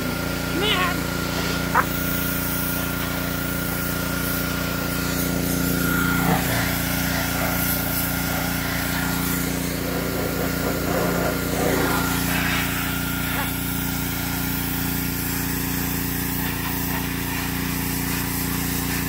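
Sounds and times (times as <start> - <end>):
small gasoline engine running: 0.0 - 19.0.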